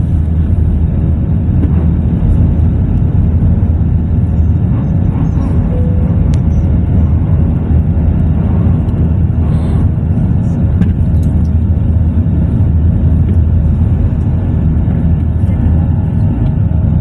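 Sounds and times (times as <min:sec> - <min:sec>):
aircraft engines rumbling on takeoff: 0:00.0 - 0:17.0.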